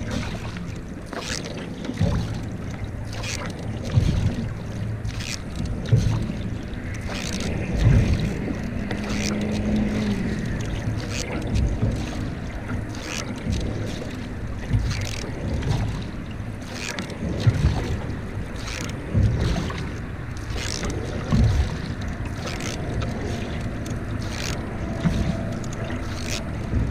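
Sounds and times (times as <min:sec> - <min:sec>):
paddle strokes splashing in water: 0:00.0 - 0:26.9
wind rumble on microphone: 0:00.0 - 0:26.9.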